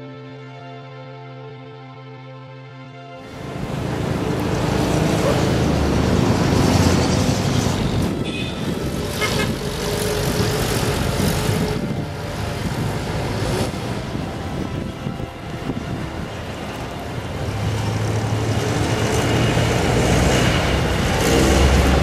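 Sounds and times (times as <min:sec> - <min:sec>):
steady rushing noise: 0:03.2 - 0:22.0.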